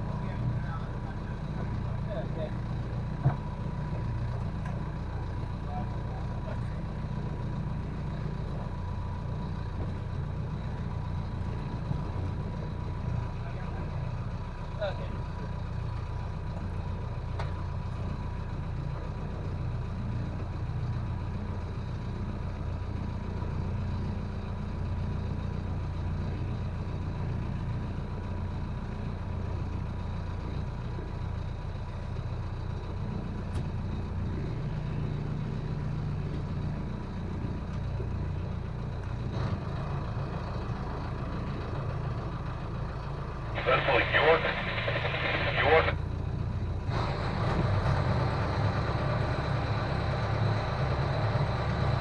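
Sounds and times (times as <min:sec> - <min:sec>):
boat engine idling: 0:00.0 - 0:39.0, 0:40.3 - 0:46.8.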